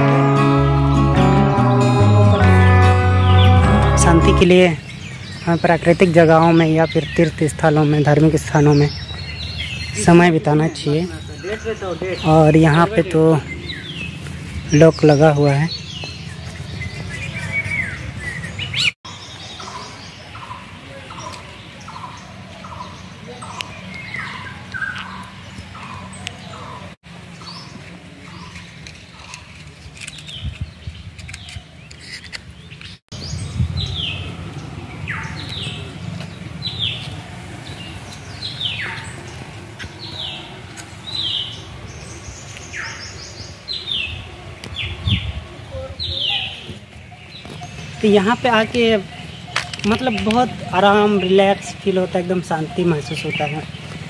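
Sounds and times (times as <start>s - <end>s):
birds calling short notes: 0.0s - 54.0s
low rumble of wind: 3.2s - 54.0s.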